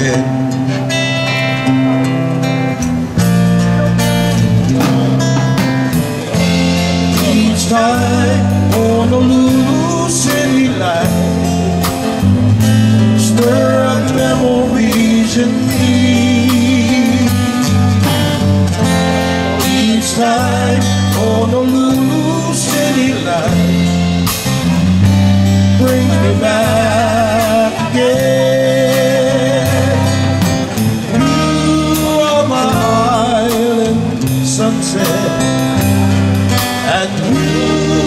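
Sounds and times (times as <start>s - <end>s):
band music with singing: 0.0s - 38.0s.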